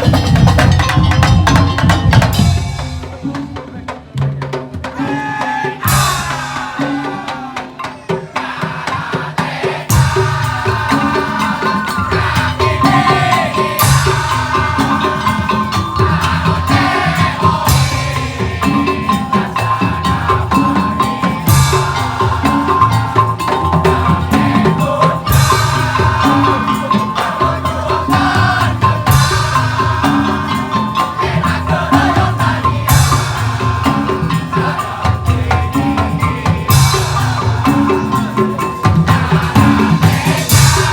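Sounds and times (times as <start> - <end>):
percussion music: 0.0 - 40.9.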